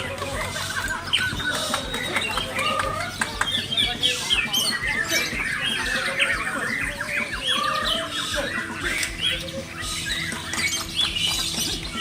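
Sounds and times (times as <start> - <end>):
songbirds chorus: 0.0 - 12.0.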